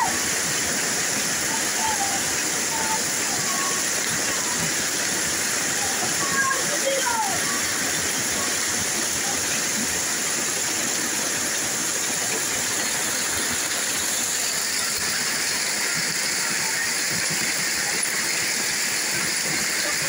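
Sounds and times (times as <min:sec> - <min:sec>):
water hissing: 0:00.0 - 0:20.0.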